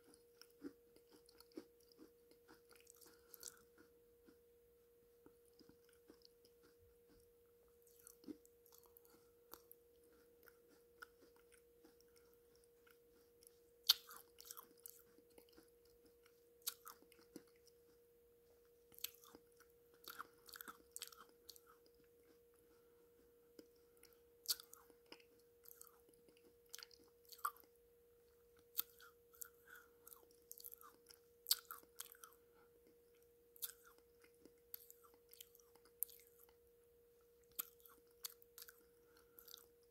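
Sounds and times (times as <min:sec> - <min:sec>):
faint steady hum: 0:00.0 - 0:39.9
person chewing clay: 0:00.0 - 0:39.9.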